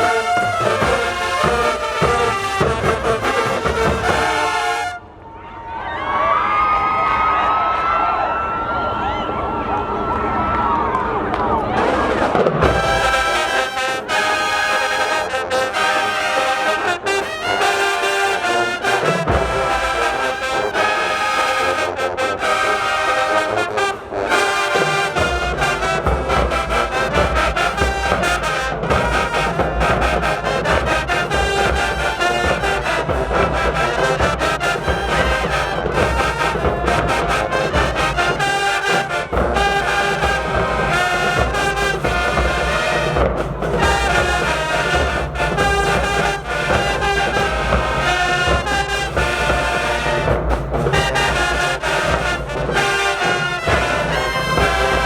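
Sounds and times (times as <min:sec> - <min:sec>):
steady drum beat: 0:00.0 - 0:05.0, 0:12.1 - 0:55.0
brass chords: 0:00.0 - 0:05.2, 0:11.7 - 0:55.0.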